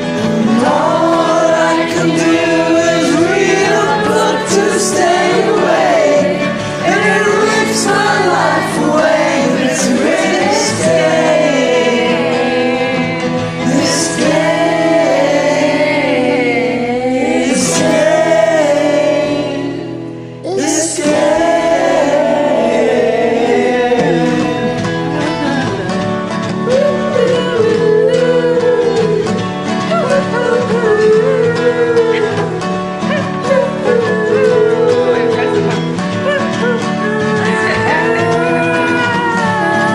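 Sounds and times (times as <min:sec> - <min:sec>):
acoustic guitar: 0:00.0 - 0:39.9
person singing: 0:00.0 - 0:39.9.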